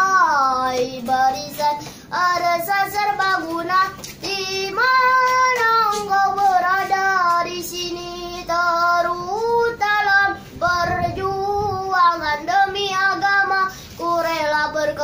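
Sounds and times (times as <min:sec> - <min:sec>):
boy singing unaccompanied: 0:00.0 - 0:15.0.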